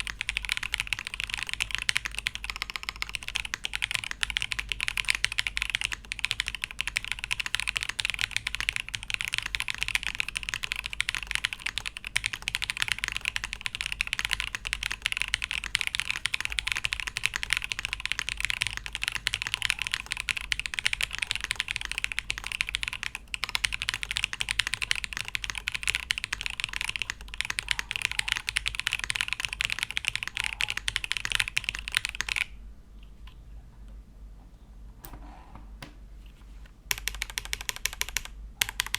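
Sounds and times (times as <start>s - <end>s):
fast mechanical keyboard typing: 0.0s - 32.5s, 36.9s - 38.9s.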